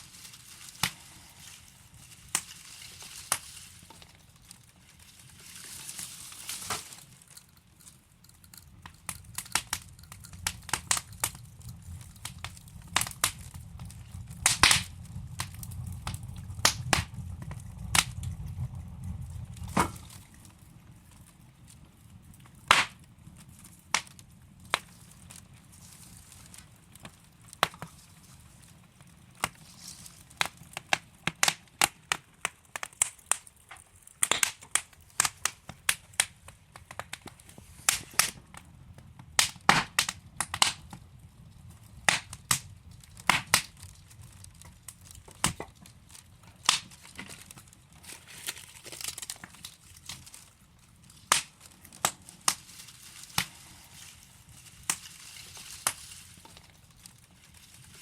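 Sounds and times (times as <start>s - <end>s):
flames rushing: 0.0s - 58.0s
wood fire crackling: 0.0s - 58.0s.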